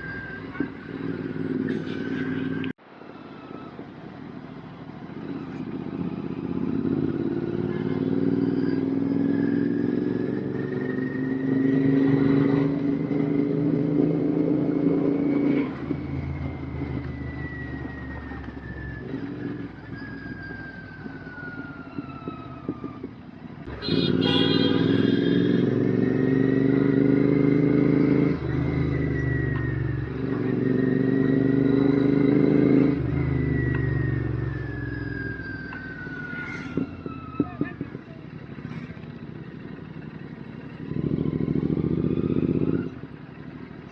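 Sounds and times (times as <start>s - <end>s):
motorcycle engine accelerating: 0.0s - 2.7s, 5.2s - 43.9s.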